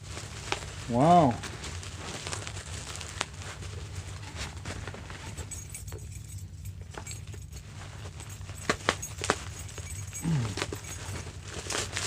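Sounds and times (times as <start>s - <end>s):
faint rustling: 0.0s - 12.0s
steady low hum: 0.0s - 12.0s.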